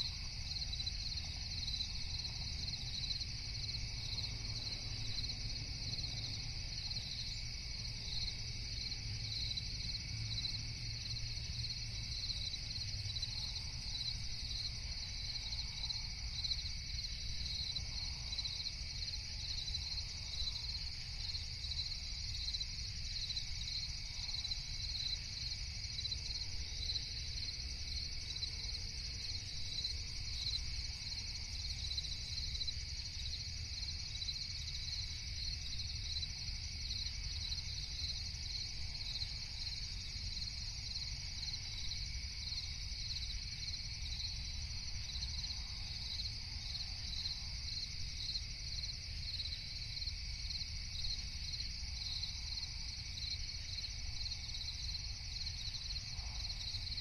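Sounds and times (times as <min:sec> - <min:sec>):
crickets chirping: 0:00.0 - 0:57.0
faint insect trill: 0:00.0 - 0:57.0.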